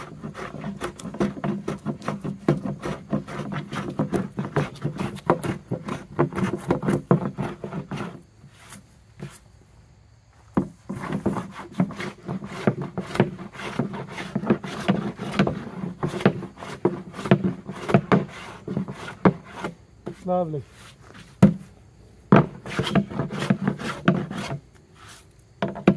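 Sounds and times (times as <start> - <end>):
hand plane strokes on wood: 0.0 - 9.4, 10.6 - 21.6, 22.3 - 25.9.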